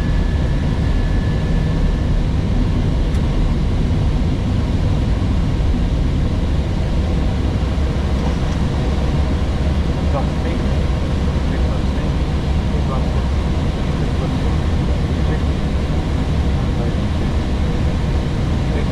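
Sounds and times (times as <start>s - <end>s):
airflow and engine rumble in cockpit: 0.0s - 18.9s.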